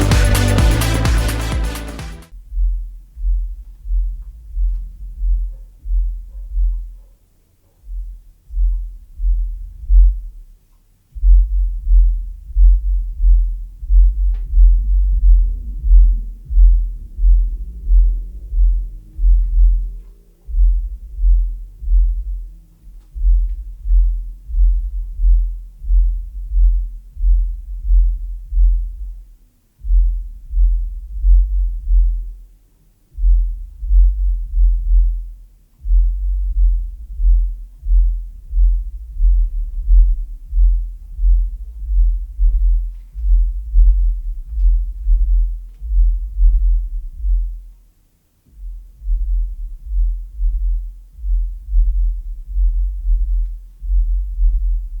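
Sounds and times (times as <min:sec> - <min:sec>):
subwoofer playing bass-heavy music: 0:00.0 - 0:03.2, 0:11.2 - 0:32.4, 0:33.2 - 0:47.8, 0:48.4 - 0:55.0.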